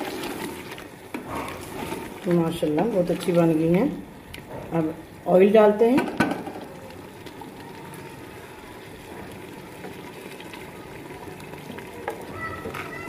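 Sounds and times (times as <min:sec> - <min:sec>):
gravy bubbling: 0:00.0 - 0:13.0.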